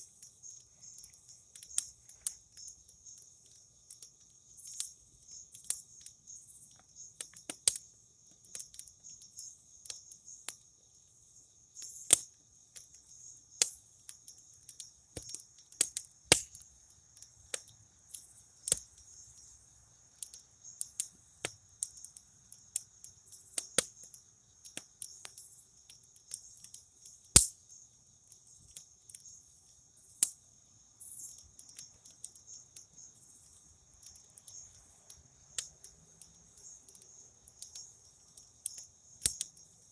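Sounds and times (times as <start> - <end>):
campfire crackling and popping: 0.0 - 10.7, 11.8 - 19.1, 20.1 - 29.4, 30.1 - 30.4, 31.2 - 33.0, 33.8 - 39.7
crickets chirping: 0.0 - 39.9.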